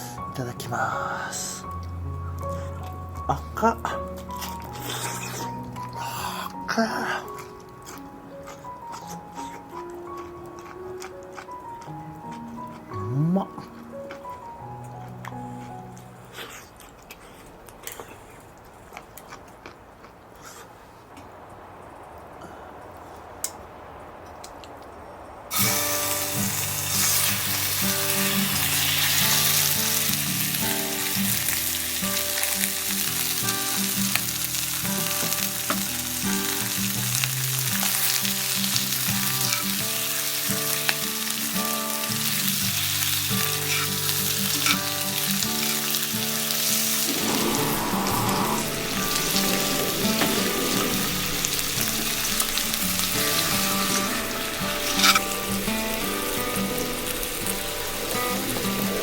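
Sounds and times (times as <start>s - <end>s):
background music held notes: 0.0s - 17.0s, 25.6s - 59.0s
food frying sizzle: 0.9s - 12.9s, 20.9s - 59.0s.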